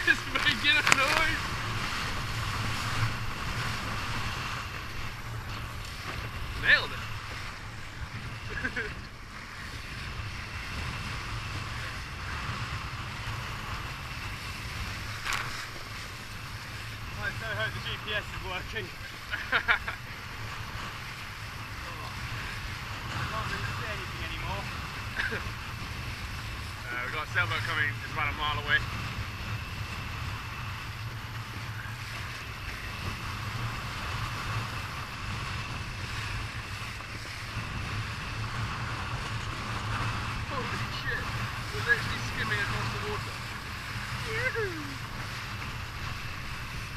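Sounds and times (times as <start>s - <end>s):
water rushing along hull: 0.0s - 46.9s
wind buffeting microphone: 0.0s - 46.9s.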